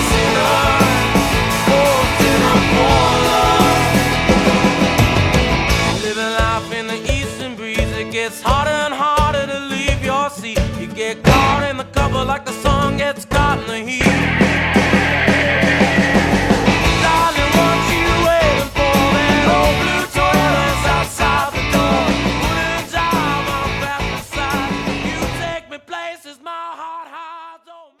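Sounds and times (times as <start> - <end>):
rock song with guitar and drums: 0.0 - 25.6.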